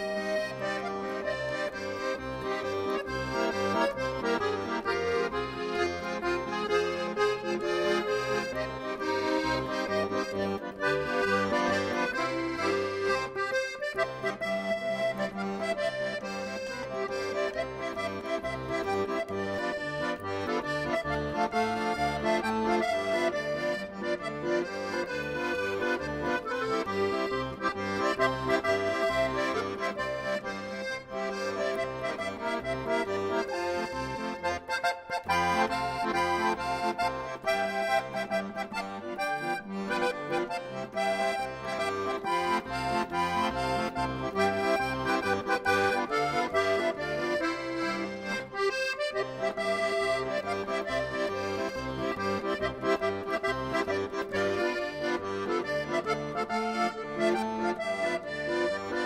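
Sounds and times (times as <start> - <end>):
accordion playing a tune: 0.0 - 59.0.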